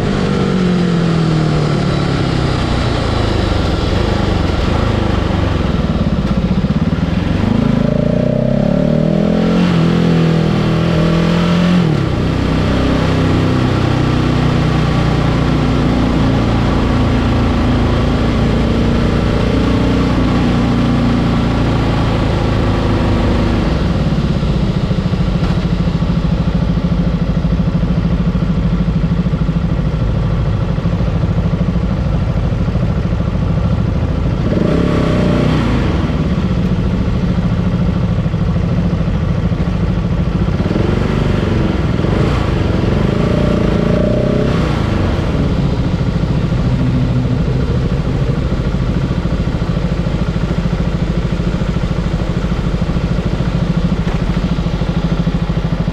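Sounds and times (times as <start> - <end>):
vehicle engine revving: 0.0 - 26.5, 34.2 - 38.0, 39.6 - 55.9
road noise: 0.0 - 55.9.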